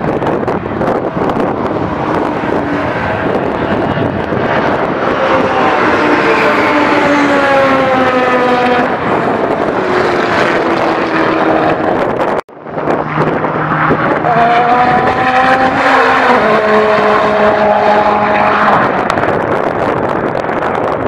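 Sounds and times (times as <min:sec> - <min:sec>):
race car engines running: 0:00.0 - 0:21.0.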